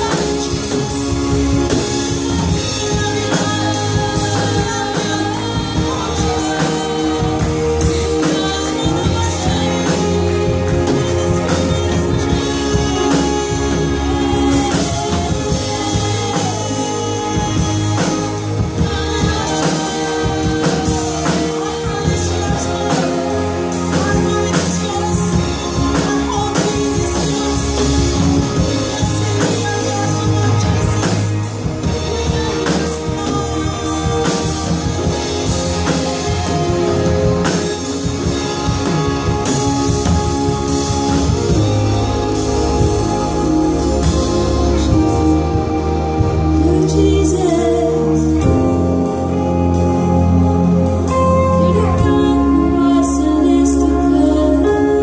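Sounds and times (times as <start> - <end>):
drum kit beat: 0.0 - 52.8
electric bass guitar: 0.0 - 55.0
keyboard: 0.0 - 55.0
person singing: 0.0 - 55.0.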